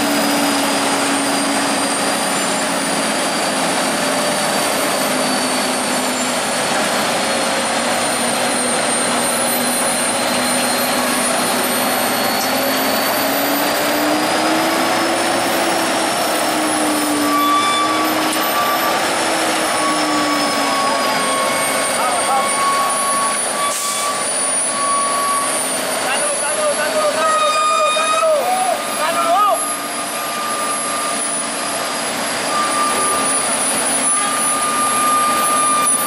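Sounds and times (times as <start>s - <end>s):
truck diesel engines under load: 0.0s - 36.0s.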